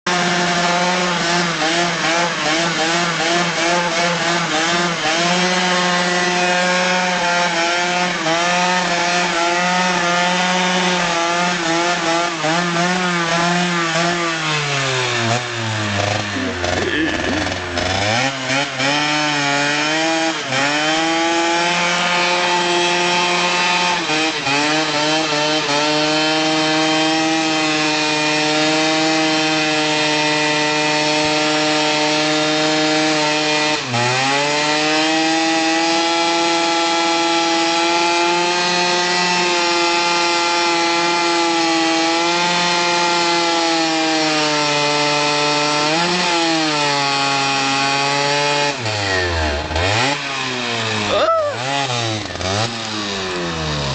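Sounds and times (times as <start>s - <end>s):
two-stroke motorcycle engine revving: 0.0s - 53.9s.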